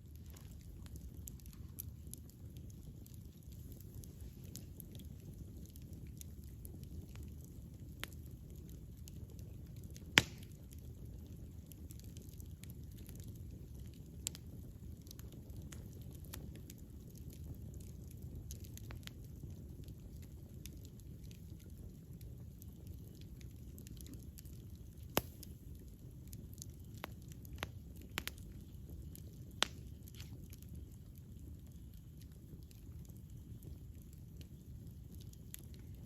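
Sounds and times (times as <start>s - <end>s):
burning wood crackling and popping: 0.0s - 36.0s
wood fire rumbling: 0.0s - 36.0s.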